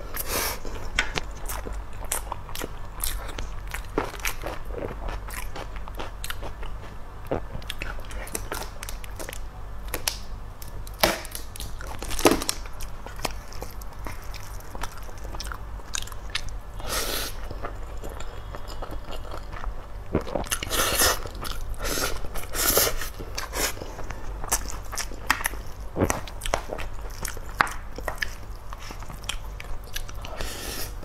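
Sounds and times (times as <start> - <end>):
chewing and smacking: 0.6 - 16.6, 17.4 - 30.5.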